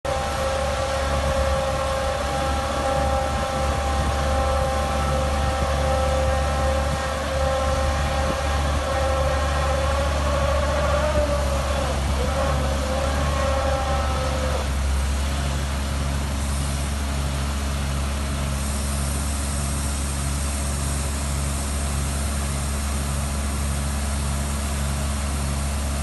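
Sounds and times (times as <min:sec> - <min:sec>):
machine engine humming and whining: 0:00.0 - 0:26.0.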